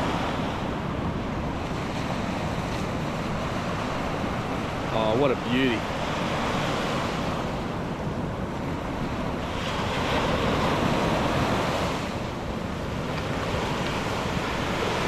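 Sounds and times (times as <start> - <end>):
surf washing: 0.0 - 15.0
wind buffeting microphone: 0.0 - 15.0.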